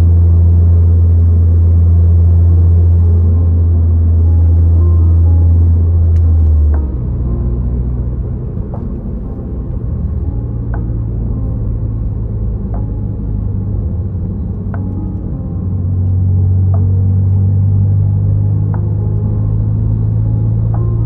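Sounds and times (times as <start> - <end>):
car cabin rumble while driving: 0.0 - 21.0.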